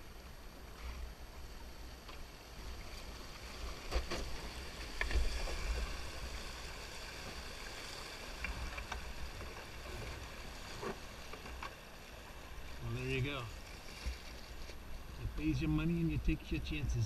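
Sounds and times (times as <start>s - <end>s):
river rushing around canoe hull: 0.0s - 17.0s.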